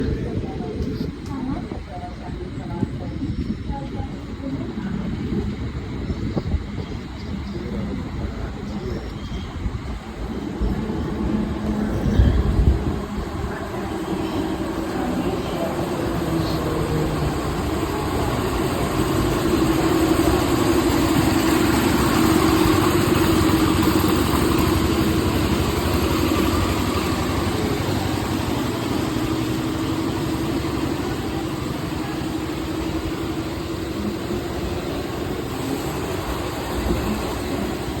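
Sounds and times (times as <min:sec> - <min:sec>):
train rumble with motor hum: 0:00.0 - 0:38.0.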